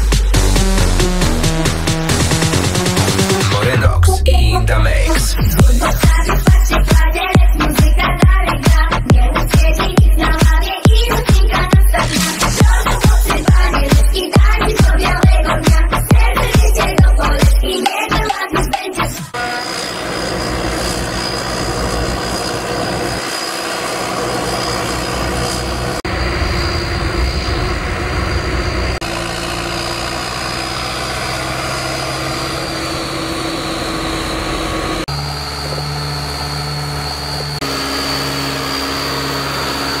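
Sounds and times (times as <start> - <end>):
high whine: 0.0 - 17.7, 19.2 - 30.2, 30.8 - 40.0
tractor diesel engine running: 0.0 - 40.0.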